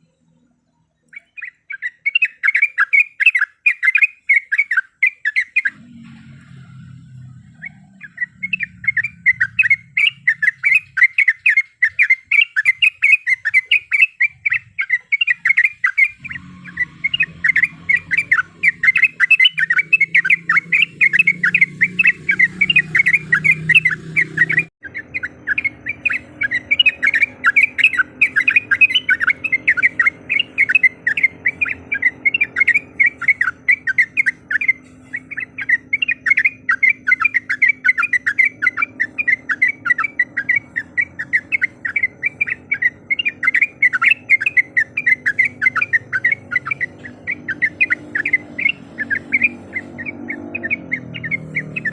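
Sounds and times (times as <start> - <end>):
bird rapid chattering call: 1.1 - 5.9, 7.2 - 51.9.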